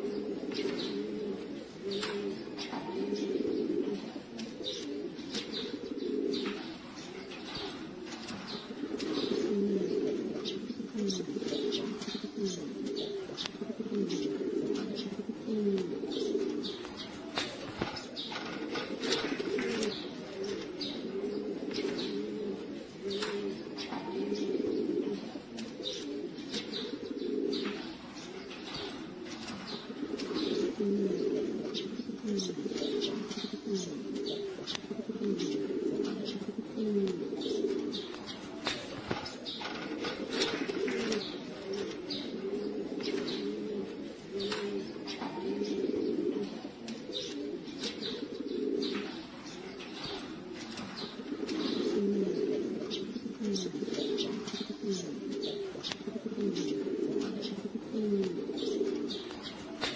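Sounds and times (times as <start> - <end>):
pigeons cooing: 0.0 - 59.9.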